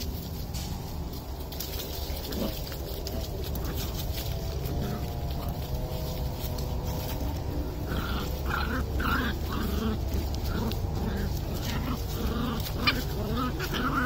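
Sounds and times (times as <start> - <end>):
low rumble: 0.0 - 14.0
puppies growling and yipping: 1.2 - 14.0.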